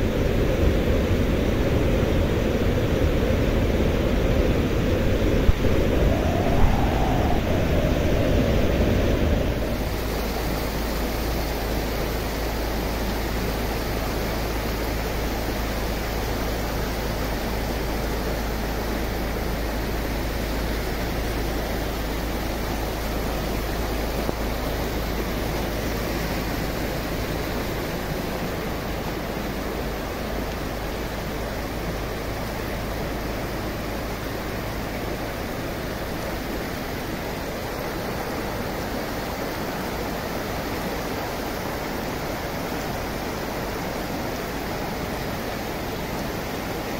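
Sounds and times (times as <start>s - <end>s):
water rushing: 4.1s - 46.9s.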